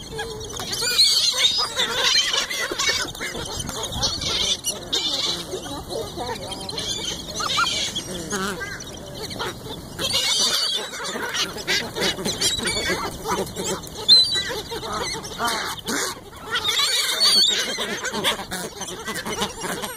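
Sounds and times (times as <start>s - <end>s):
flock of birds calling: 0.0s - 19.9s.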